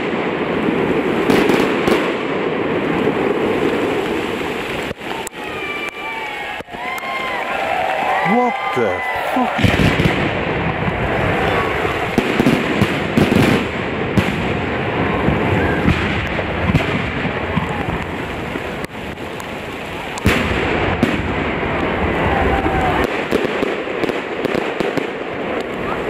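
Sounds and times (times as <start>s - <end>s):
fireworks crackle and hiss: 0.0s - 26.0s.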